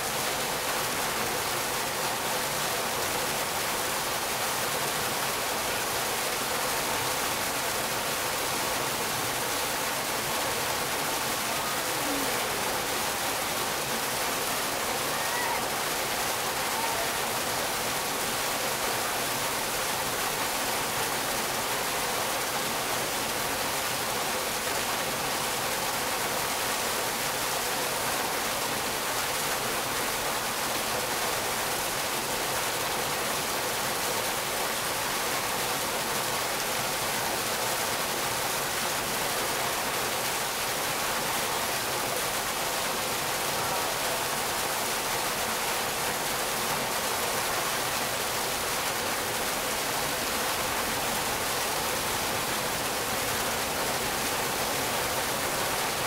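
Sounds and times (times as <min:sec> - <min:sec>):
water pouring into a pool: 0:00.0 - 0:56.0.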